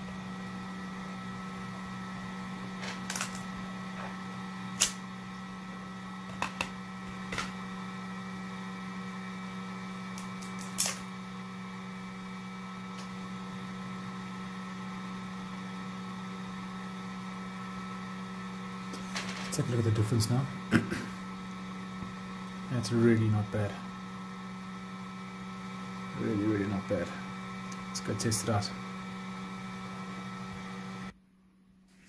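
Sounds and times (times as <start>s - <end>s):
steady low hum: 0.0s - 31.8s.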